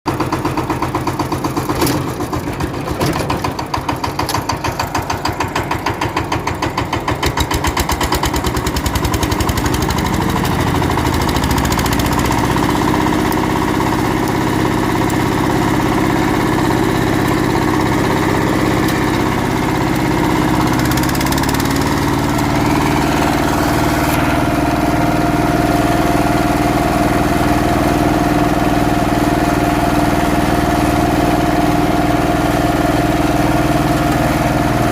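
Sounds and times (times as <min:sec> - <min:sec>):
diesel engine starting and running: 0:00.1 - 0:34.9.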